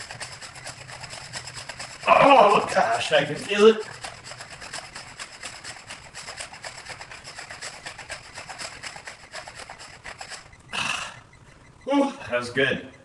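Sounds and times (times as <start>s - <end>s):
spring-loaded dumbbell clacking: 0.0s - 11.8s.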